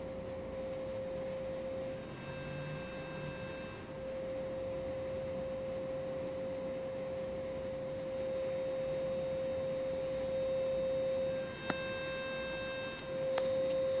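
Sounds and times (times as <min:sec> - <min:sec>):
steady high-pitched hum: 0:00.0 - 0:14.0.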